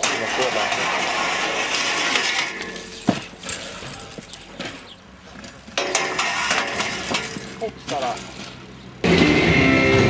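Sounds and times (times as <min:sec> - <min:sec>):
bike clicks and rattles: 0:00.0 - 0:09.1
bike hitting the ground: 0:00.0 - 0:09.6.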